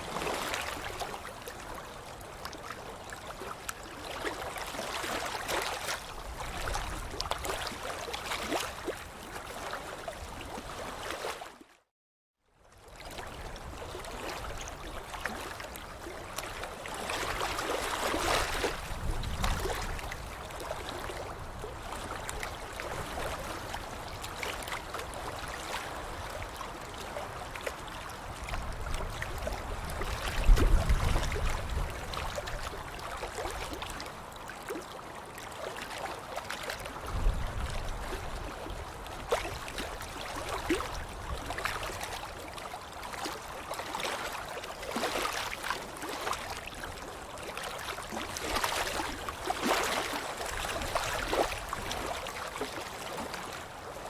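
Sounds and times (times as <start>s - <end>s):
water splashing and sloshing: 0.0s - 11.9s, 12.7s - 54.0s.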